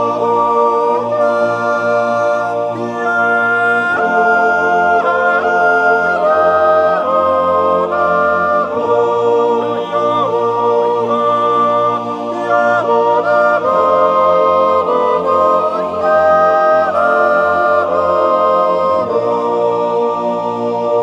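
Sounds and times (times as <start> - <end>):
choir singing a cappella: 0.0 - 21.0.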